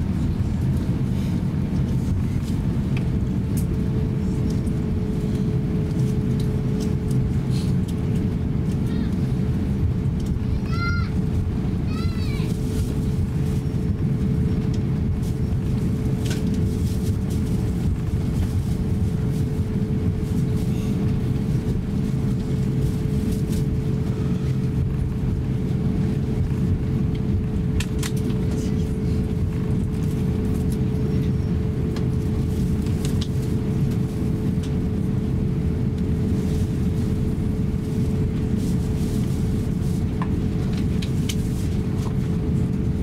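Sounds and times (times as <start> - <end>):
aircraft cabin rumble: 0.0 - 43.0.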